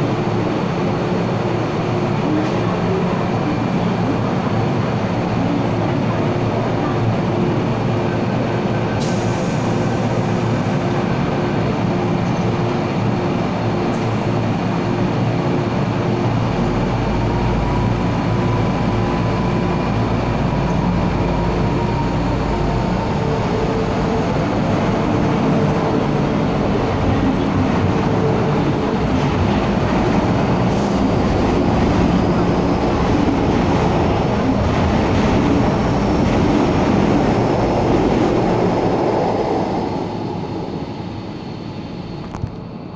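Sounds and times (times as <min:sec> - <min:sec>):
electric train accelerating past: 0:00.0 - 0:42.9.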